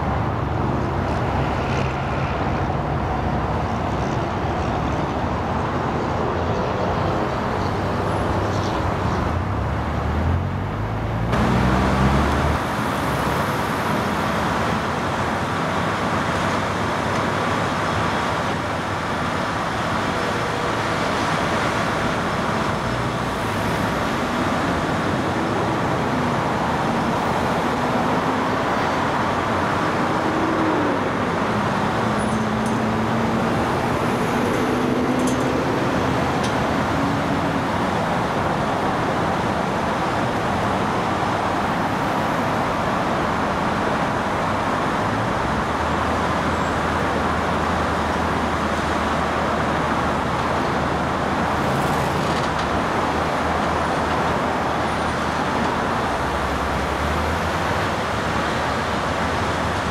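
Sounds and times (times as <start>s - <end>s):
heavy machinery engine running: 0.0s - 59.9s
steady wash of noise: 0.0s - 59.9s.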